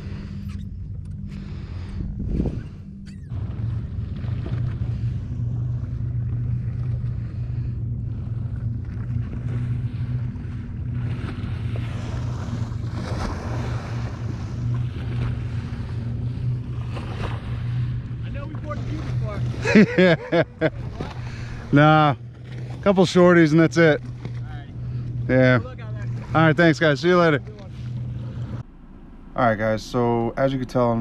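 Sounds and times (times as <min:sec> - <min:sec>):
motorboat engine idling: 0:00.0 - 0:31.0
wind: 0:00.0 - 0:31.0.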